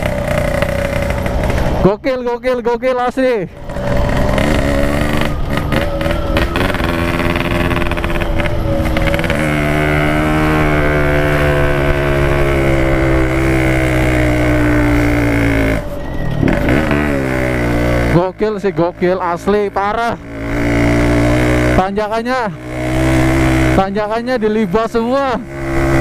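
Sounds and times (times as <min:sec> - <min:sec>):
two-stroke motorcycle engine running hard: 0:00.0 - 0:02.0, 0:03.5 - 0:26.0.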